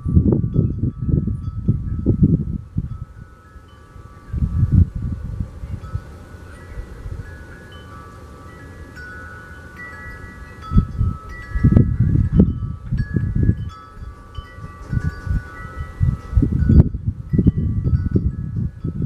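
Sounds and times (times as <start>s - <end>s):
wind chimes ringing: 0.0s - 19.0s.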